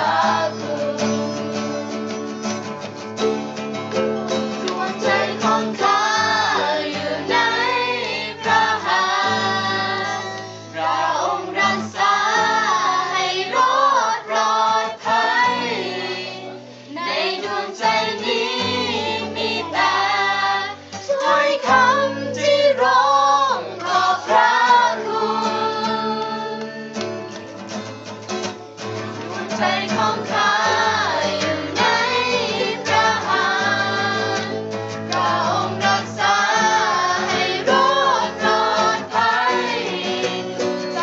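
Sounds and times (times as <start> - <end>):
group singing: 0.0 - 2.2, 4.4 - 27.0, 29.1 - 41.0
strummed acoustic guitars: 0.0 - 41.0.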